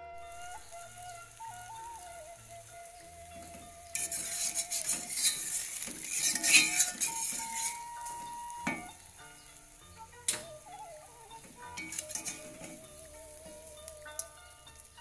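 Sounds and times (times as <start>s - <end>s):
omelette sizzling in oil: 0.1s - 15.0s
metal spatula scraping wok: 0.3s - 15.0s.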